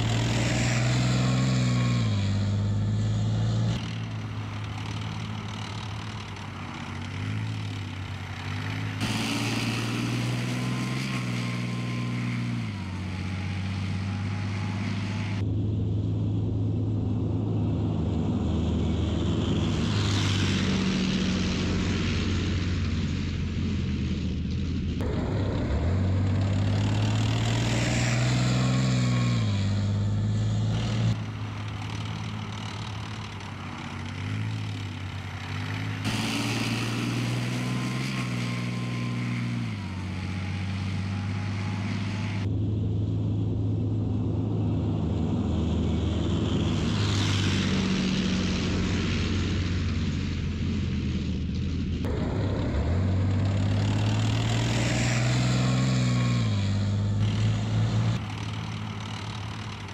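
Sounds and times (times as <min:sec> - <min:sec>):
tank diesel engines droning: 0:00.0 - 0:59.9.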